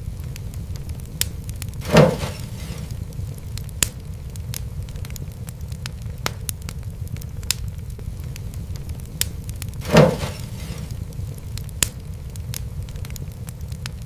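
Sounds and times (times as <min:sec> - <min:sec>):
fire crackling and popping: 0:00.0 - 0:14.0
steady low rumble: 0:00.0 - 0:14.0.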